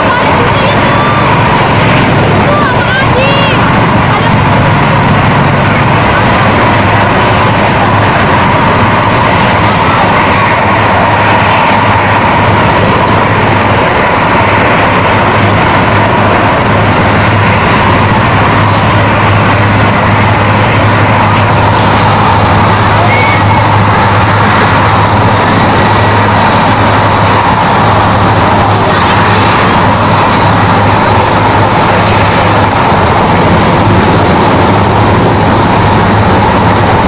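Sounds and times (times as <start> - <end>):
helicopter rotor rush: 0.0 - 37.0
helicopter turbine whine: 0.0 - 37.0.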